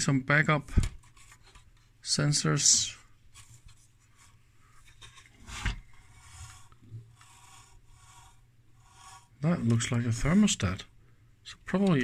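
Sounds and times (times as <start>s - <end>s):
rubbing and scraping handling noise: 0.6s - 10.8s.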